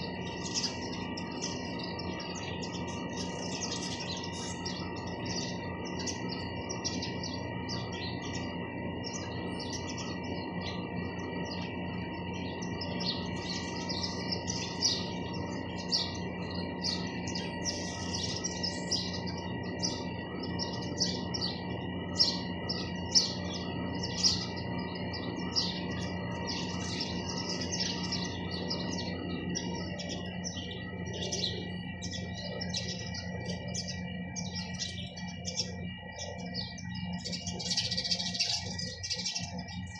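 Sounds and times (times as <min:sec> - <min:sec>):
sparrows chirping: 0:00.0 - 0:39.9
steady background hum: 0:00.0 - 0:39.9.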